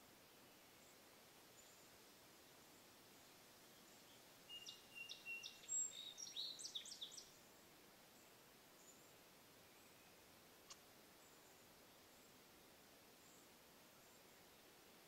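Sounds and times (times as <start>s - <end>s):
small bird chirping song: 0.0s - 15.0s.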